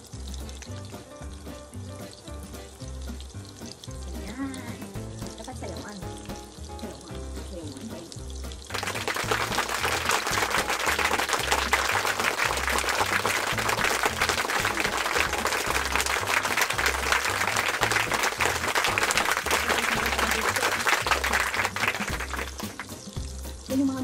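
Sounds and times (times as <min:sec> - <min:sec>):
shrimp frying in hot oil: 0:00.0 - 0:24.0.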